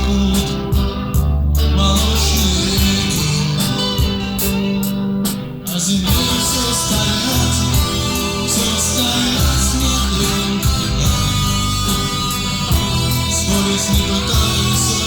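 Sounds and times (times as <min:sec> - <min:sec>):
electric guitar: 0:00.0 - 0:15.0
rock band playing instrumental: 0:00.0 - 0:15.0.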